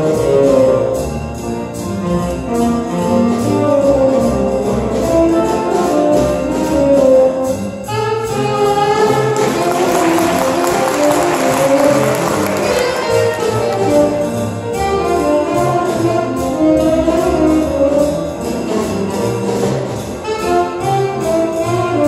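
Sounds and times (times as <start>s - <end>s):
walking double bass: 0.0s - 22.0s
saxophones playing melody: 2.4s - 19.4s, 20.0s - 22.0s.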